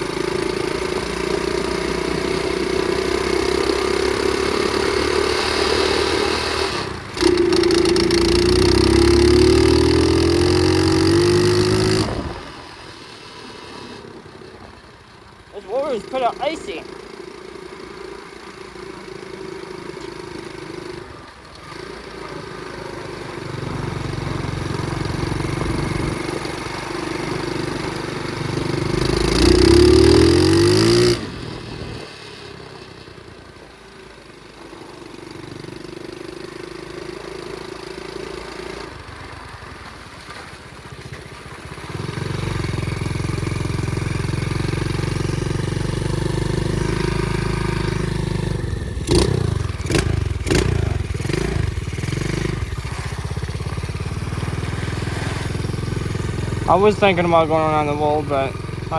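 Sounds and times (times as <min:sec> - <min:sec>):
pit bike engine revving: 0:00.0 - 0:14.7, 0:15.4 - 0:32.5, 0:41.8 - 0:58.9.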